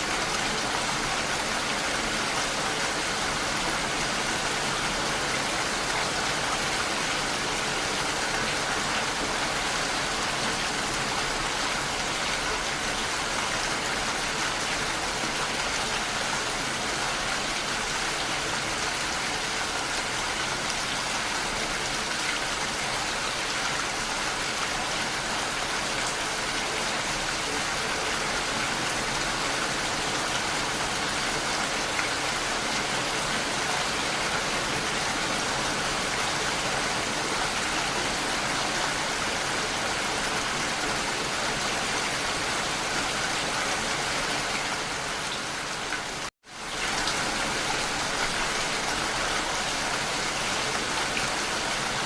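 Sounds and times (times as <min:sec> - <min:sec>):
rain pattering on a surface: 0:00.0 - 0:52.0.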